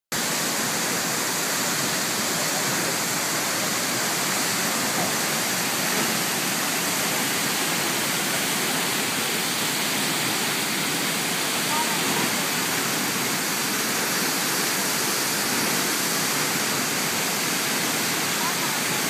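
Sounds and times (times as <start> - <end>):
waterfall rushing: 0.1 - 19.0.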